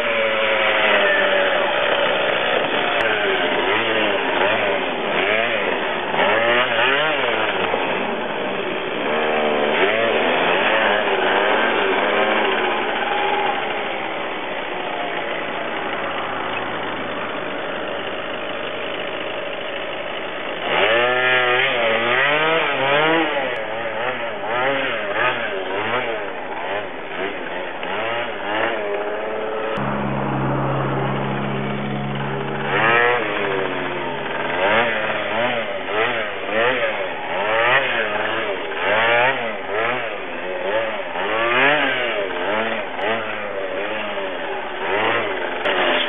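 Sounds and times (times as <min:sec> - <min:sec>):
small motorcycle engine revving: 0:00.0 - 0:46.0.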